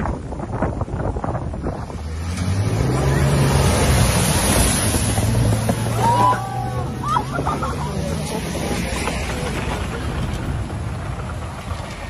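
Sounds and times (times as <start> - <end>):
vehicle engine humming: 0.0 - 12.0
loud rushing noise: 1.6 - 12.0.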